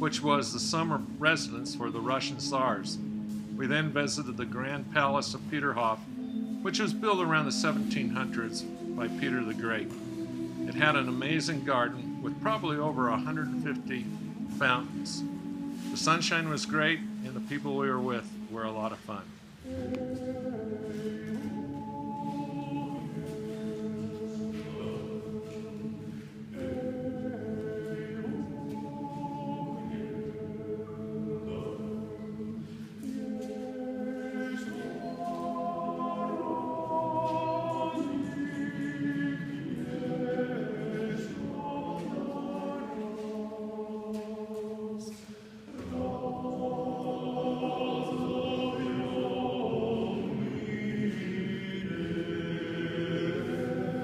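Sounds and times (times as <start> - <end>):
male vocal quartet singing: 0.0 - 54.0.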